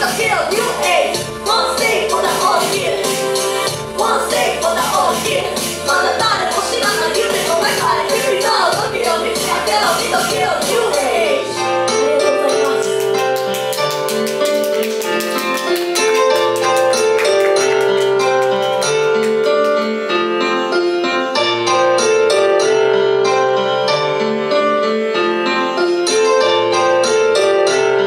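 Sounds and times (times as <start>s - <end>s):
instrumental keyboard music with beat: 0.0s - 28.0s.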